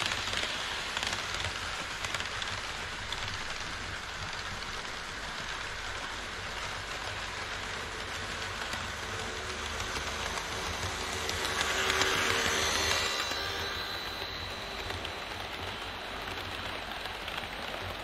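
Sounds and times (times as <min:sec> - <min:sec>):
model train wheels rolling on rail: 0:00.0 - 0:18.0.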